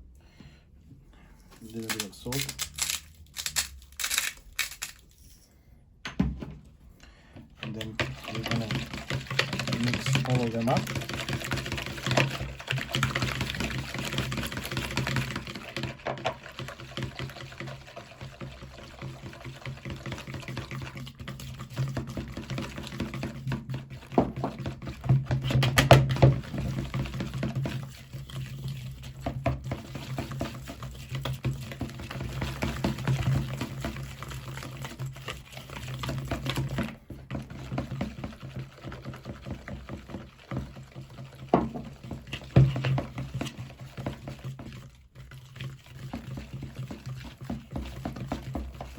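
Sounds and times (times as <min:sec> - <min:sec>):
liquid sloshing in a bowl: 0:07.4 - 0:48.9.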